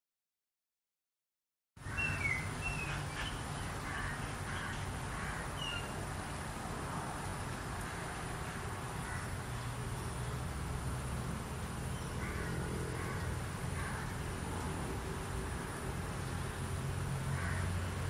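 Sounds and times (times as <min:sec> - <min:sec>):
background hiss: 0:01.8 - 0:18.0.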